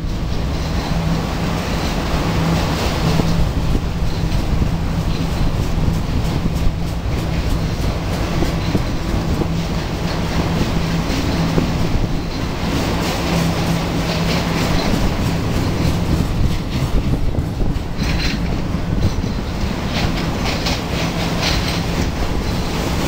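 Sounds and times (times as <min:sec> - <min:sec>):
train wheels rumbling on rails: 0:00.0 - 0:23.0
wheels clicking over rail joints: 0:00.0 - 0:23.0.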